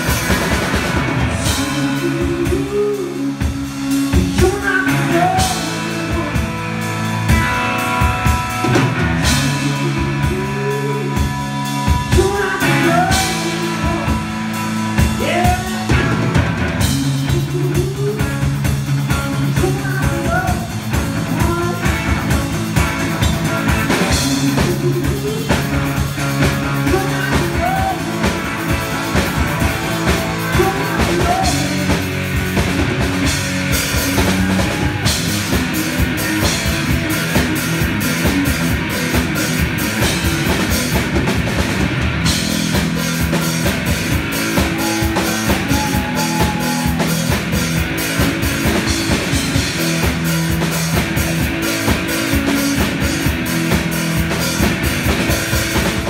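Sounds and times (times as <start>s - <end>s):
electric guitar: 0.0s - 56.0s
hard-hit drumming: 0.0s - 56.0s.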